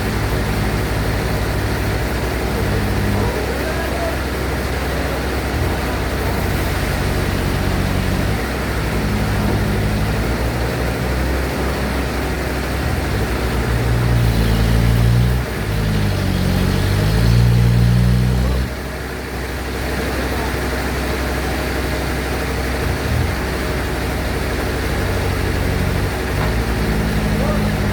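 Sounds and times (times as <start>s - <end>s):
bandsaw engine running: 0.0s - 27.9s.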